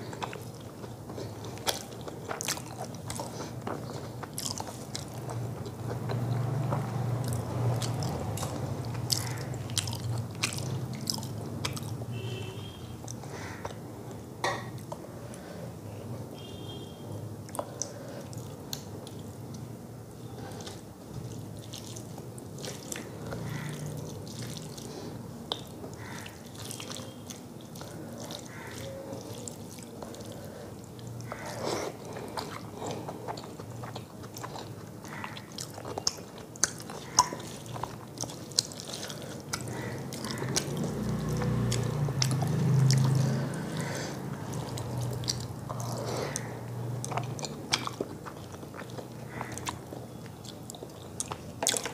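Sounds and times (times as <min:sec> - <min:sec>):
wet chewing and lip smacks: 0:00.2 - 0:12.0, 0:20.5 - 0:51.9.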